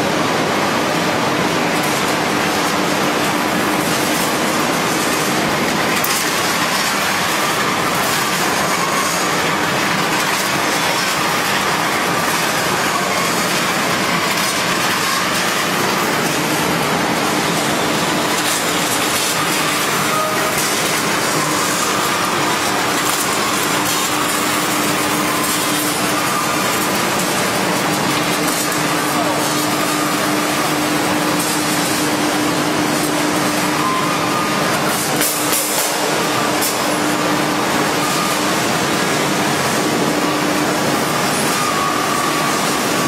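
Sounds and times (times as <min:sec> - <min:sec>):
constant machine hum: 0:00.0 - 0:43.0
steel slitting machine running: 0:00.0 - 0:43.0.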